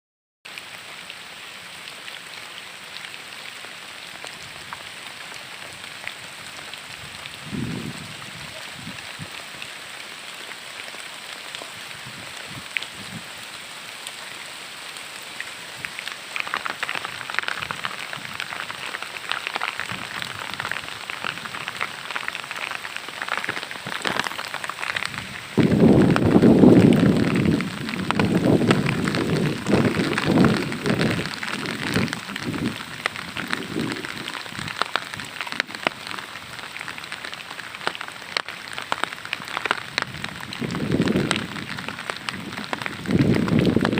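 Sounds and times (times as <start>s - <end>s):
heavy rain: 0.5s - 43.9s.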